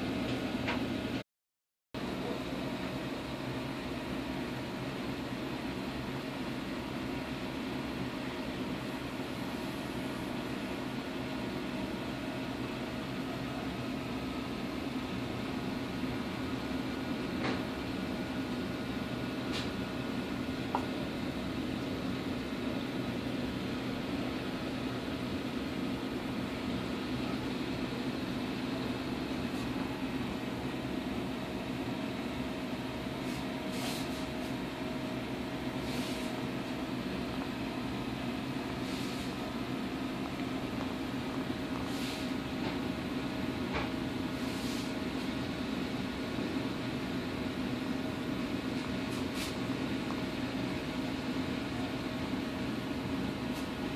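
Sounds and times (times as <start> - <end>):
aquarium pumps humming: 0.0 - 1.2, 2.0 - 53.9.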